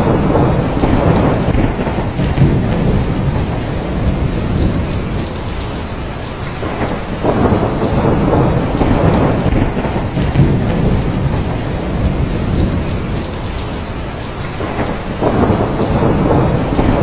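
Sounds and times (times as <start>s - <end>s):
heavy rain: 0.0s - 17.0s
rolling thunder: 0.0s - 17.0s.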